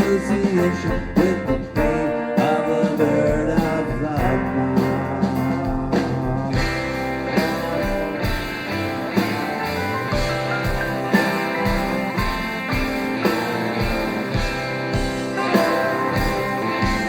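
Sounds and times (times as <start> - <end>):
electric guitar: 0.0 - 17.0
rock band playing: 0.0 - 17.0
steady drum beat: 0.0 - 17.0.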